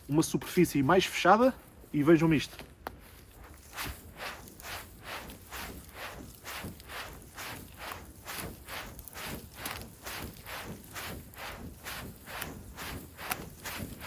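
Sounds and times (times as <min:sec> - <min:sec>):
fir boughs swishing: 0:00.1 - 0:14.0.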